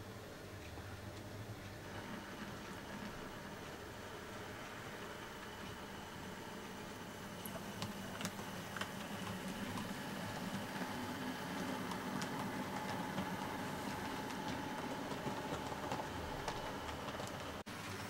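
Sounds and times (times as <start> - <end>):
wheels clicking on track: 1.1 - 18.0.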